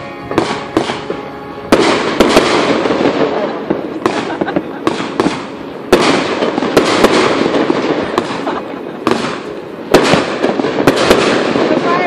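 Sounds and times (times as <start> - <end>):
firework shell bursts: 0.0 - 12.0
fireworks crackling: 0.0 - 12.0.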